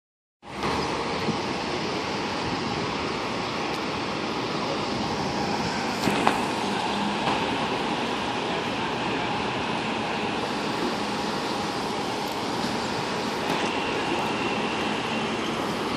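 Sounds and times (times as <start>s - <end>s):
city street traffic roar: 0.4s - 15.9s.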